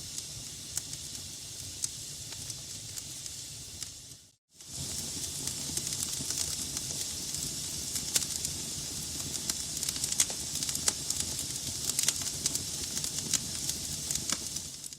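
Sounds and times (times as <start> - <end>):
fire crackles and pops: 0.0 - 14.9
logs burning in fireplace: 0.0 - 14.9.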